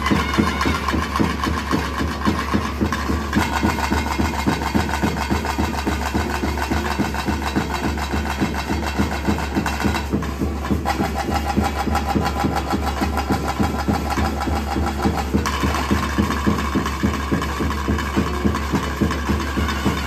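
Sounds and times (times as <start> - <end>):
wind instrument melody: 0.0 - 9.3, 10.0 - 20.0
drums beaten in fast rhythm: 0.0 - 20.0.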